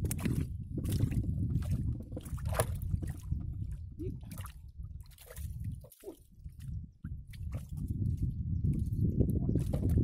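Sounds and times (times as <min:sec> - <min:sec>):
small sharp ticks and splashes: 0:00.0 - 0:10.0
water sloshing and dripping: 0:00.0 - 0:10.0.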